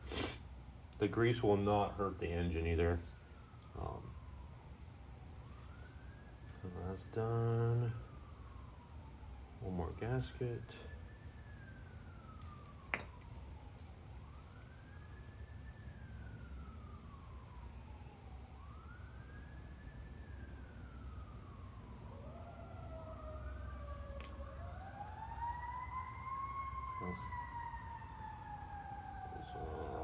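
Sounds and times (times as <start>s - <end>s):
emergency siren wailing: 0.0s - 30.0s
second siren: 0.0s - 30.0s.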